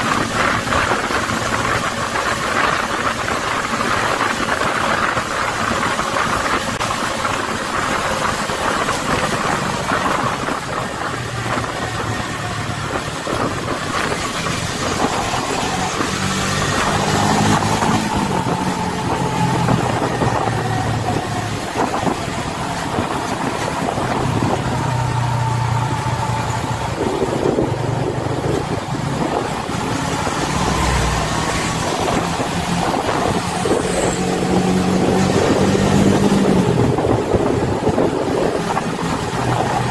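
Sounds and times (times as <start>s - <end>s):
whine sliding up and down: 0.0s - 37.2s
vehicle engine and road noise: 0.0s - 39.9s.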